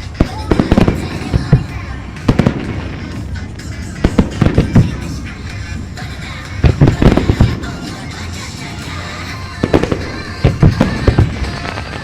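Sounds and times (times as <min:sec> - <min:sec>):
fireworks bursting: 0:00.0 - 0:12.0
music: 0:00.0 - 0:12.0.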